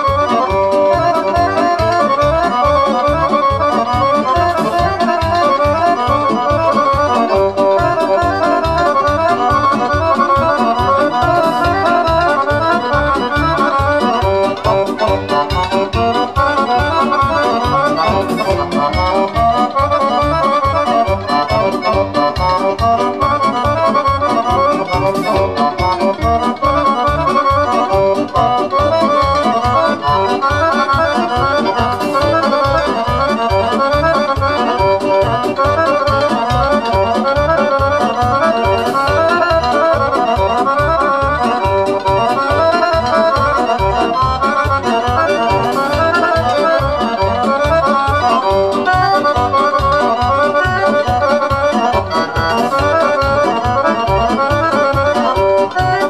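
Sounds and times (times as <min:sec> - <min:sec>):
fast folk dance music: 0:00.0 - 0:56.0.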